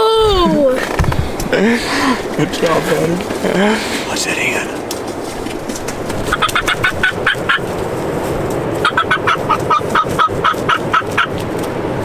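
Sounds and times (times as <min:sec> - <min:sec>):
wind noise: 0:00.0 - 0:12.0
wild turkey calling: 0:00.5 - 0:08.0, 0:08.8 - 0:11.3.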